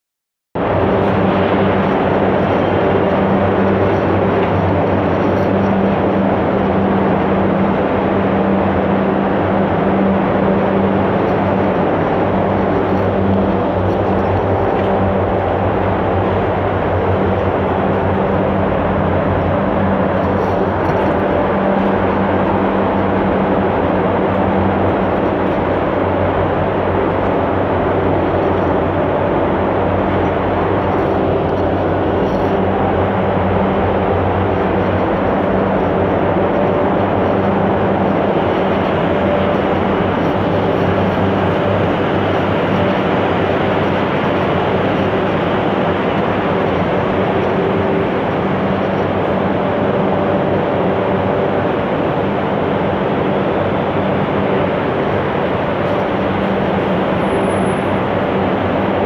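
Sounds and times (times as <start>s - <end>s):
machine drone: 0.6s - 59.0s.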